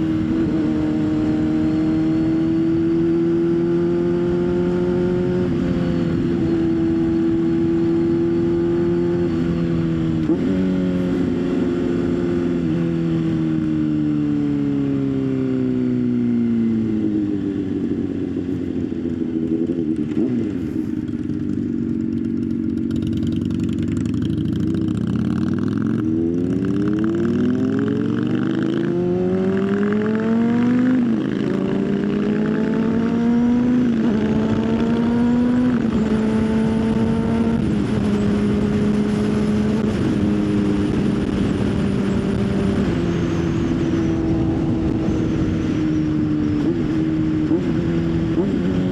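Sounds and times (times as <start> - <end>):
motorcycle engine: 0.0 - 48.9.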